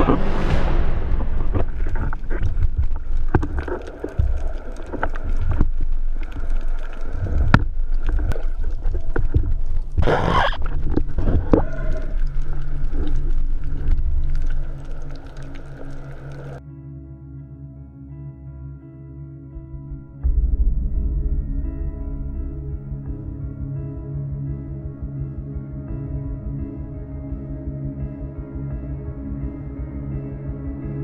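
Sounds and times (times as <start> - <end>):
underwater low hum: 0.0 - 16.6, 19.4 - 31.0.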